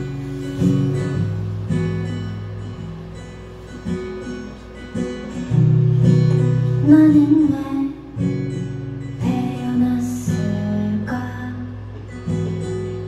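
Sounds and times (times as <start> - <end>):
acoustic guitar strummed and picked: 0.0 - 13.0.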